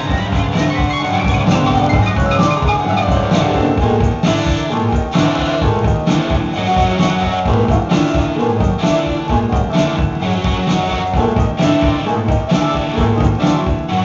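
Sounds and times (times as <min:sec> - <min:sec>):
drum hits: 0:00.0 - 0:14.0
keyboards: 0:00.0 - 0:14.0.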